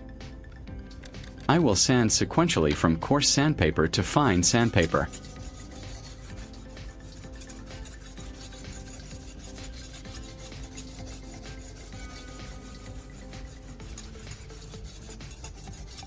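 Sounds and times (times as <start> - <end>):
knife scraping on sandpaper: 0.9 - 1.9, 4.0 - 16.0.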